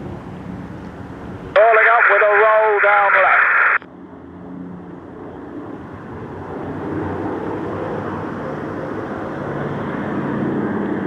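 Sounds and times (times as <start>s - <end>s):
piston aircraft engine drone: 0.0s - 11.0s.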